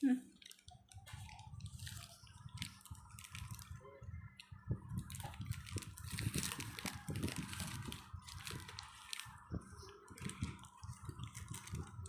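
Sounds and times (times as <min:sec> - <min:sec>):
wet chewing and mouth sounds: 0:00.3 - 0:12.0.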